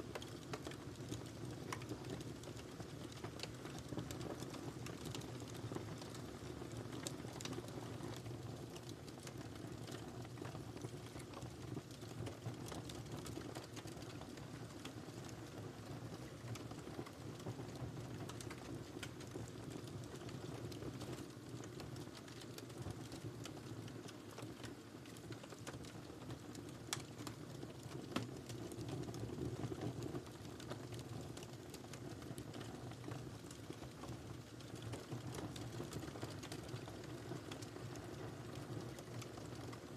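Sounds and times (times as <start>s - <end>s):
wood fire crackling: 0.0s - 39.9s
low rumble of flames: 0.1s - 39.9s.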